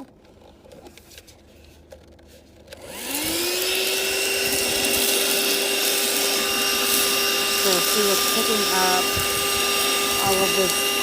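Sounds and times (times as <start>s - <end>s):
handheld vacuum motor whining: 2.2s - 11.0s.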